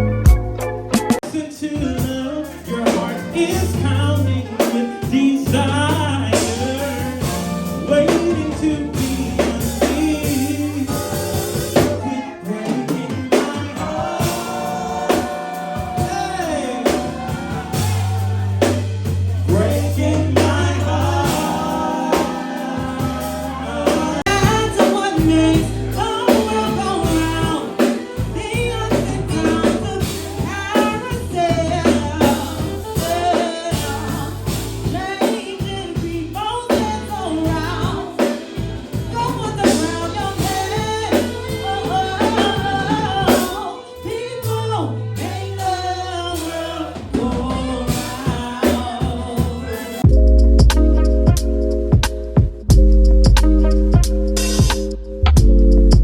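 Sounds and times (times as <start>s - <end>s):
bass line: 0.0s - 56.0s
drum kit: 0.0s - 56.0s
person singing: 1.2s - 50.4s.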